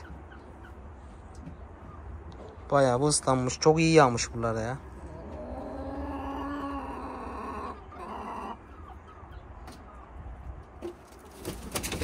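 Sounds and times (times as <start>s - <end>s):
hens clucking: 0.0s - 3.1s, 3.7s - 12.0s.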